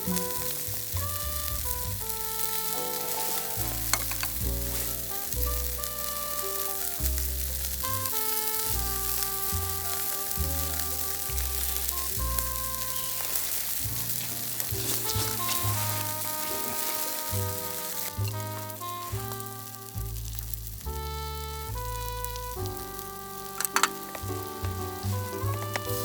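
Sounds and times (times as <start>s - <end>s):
background music: 0.0s - 26.0s
meat sizzling on charcoal grill: 0.0s - 26.0s.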